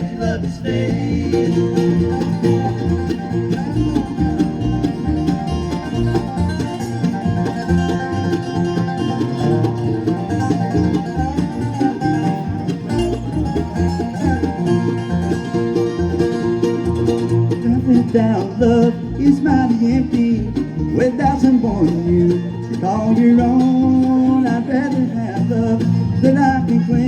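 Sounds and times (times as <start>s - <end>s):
banjo: 0.0s - 27.0s
bluegrass band playing: 0.0s - 27.0s.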